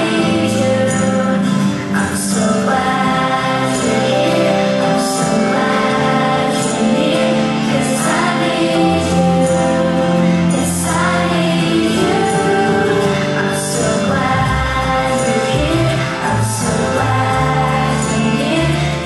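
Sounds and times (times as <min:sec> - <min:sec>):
gospel song with sung vocals: 0:00.0 - 0:19.0.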